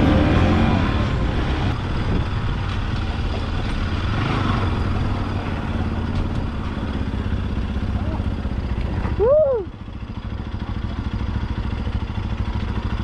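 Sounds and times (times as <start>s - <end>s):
wind and road noise: 0.0s - 10.6s
motorcycle engine running: 0.0s - 13.0s.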